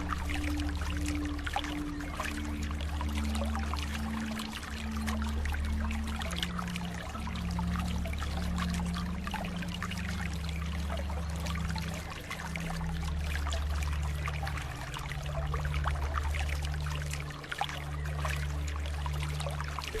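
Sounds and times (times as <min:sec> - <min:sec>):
soft music pad: 0:00.0 - 0:20.0
stream water trickling: 0:00.0 - 0:20.0.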